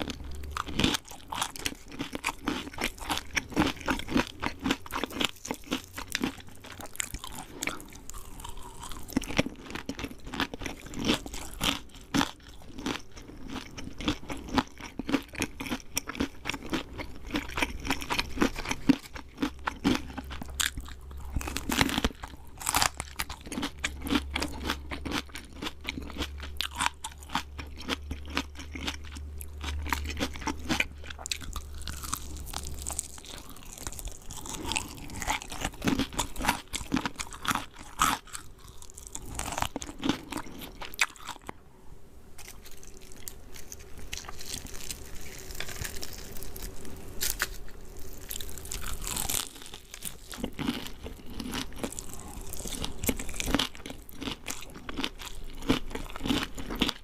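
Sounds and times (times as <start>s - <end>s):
crunching fried chicken: 0.0s - 41.6s, 42.4s - 57.0s.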